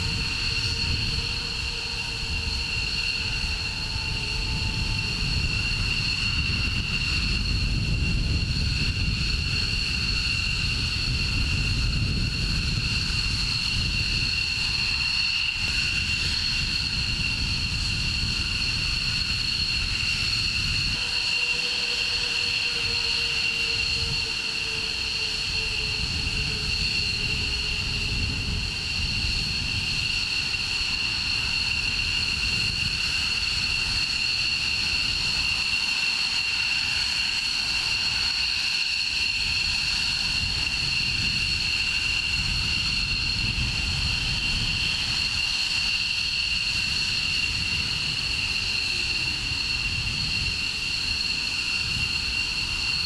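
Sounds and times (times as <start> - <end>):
jet engines idling: 0.0 - 53.0.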